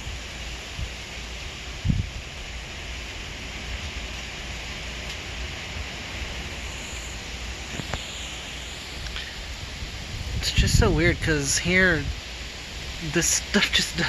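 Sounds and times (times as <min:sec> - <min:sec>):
wind buffeting the microphone: 0:00.0 - 0:13.0
strong storm wind rushing: 0:00.0 - 0:14.0.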